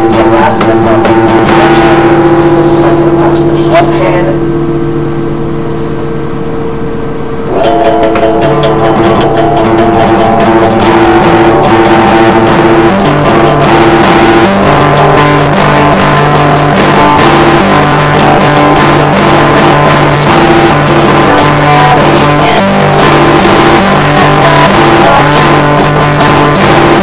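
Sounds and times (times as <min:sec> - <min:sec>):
guitar-led instrumental music: 0:00.0 - 0:27.0.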